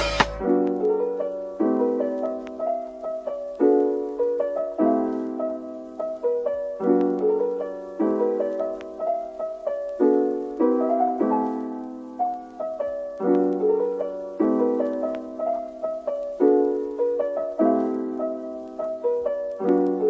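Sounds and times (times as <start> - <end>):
soft piano melody: 0.0 - 20.0.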